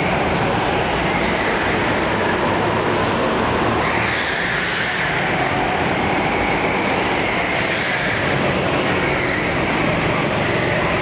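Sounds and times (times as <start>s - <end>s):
go-kart engines racing: 0.0s - 11.0s.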